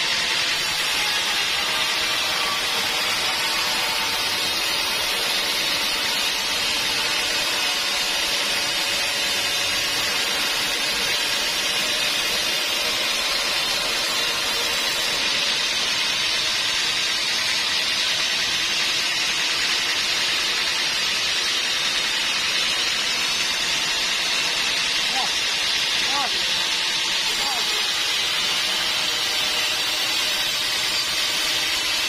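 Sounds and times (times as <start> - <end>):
sawmill machinery running: 0.0 - 32.0.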